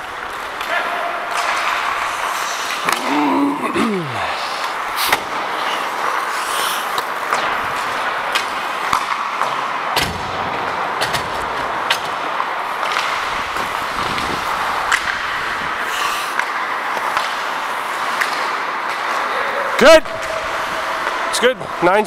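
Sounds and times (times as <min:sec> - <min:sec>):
skate blades scraping ice: 0:00.0 - 0:03.4, 0:04.2 - 0:21.9
hockey sticks and puck clacking: 0:00.0 - 0:22.0.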